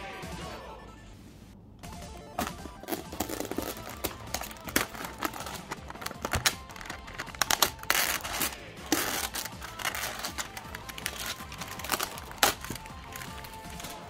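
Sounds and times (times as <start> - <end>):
plastic wrap crinkling: 2.4 - 14.0.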